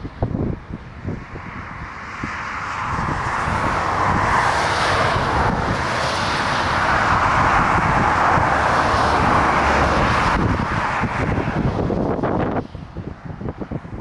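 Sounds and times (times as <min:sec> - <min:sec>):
jet engines rushing: 0:00.0 - 0:14.0
wind buffeting microphone: 0:00.0 - 0:14.0.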